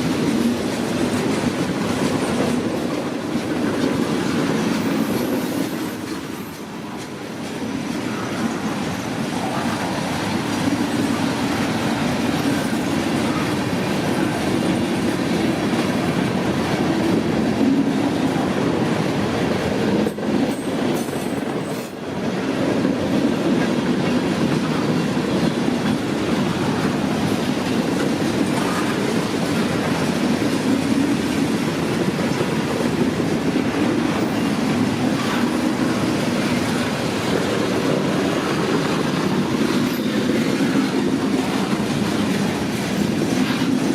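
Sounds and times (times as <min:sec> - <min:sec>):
freight train rumbling past: 0:00.0 - 0:43.9
wheel clatter over rail joints: 0:00.0 - 0:43.9.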